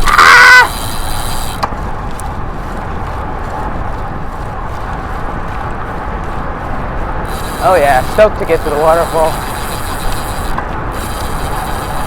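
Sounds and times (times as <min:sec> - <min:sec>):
bicycle tyres rolling on dirt: 0:00.0 - 0:12.0
wind rushing: 0:00.0 - 0:12.0.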